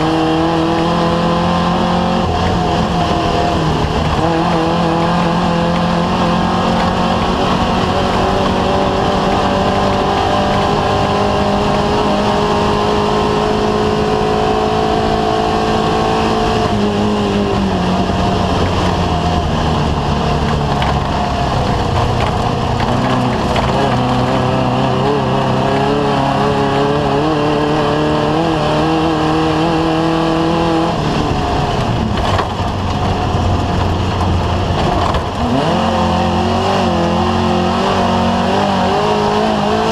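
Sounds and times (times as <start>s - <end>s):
race vehicle engine at high revs: 0.0s - 39.9s
road noise: 0.0s - 39.9s
rushing wind: 0.0s - 39.9s.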